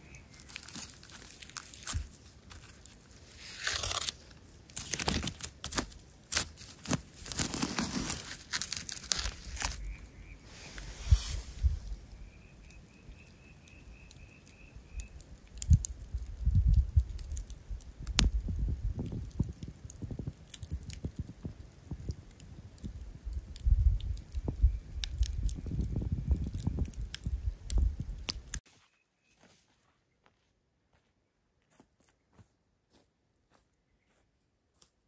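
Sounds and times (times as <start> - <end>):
campfire crackling and popping: 0.0 - 28.6.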